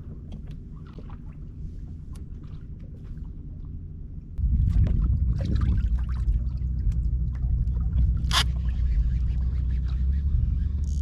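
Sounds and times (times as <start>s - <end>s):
steady low rumble: 0.0s - 11.0s
water splashing against hull: 0.0s - 11.0s.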